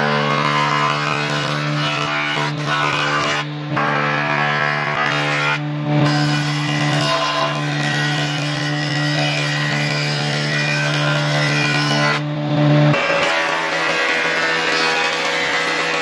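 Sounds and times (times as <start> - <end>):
jointer motor humming: 0.0 - 16.0
wood planing noise: 0.0 - 16.0.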